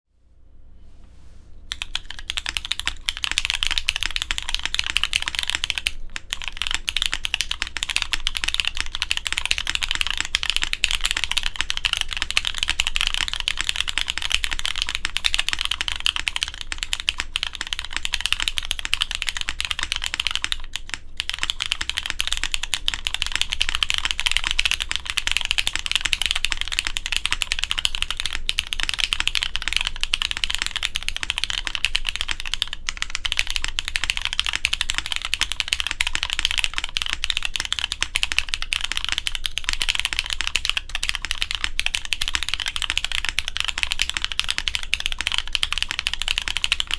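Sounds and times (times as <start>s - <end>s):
fast typing on mechanical keyboard: 1.7s - 46.9s.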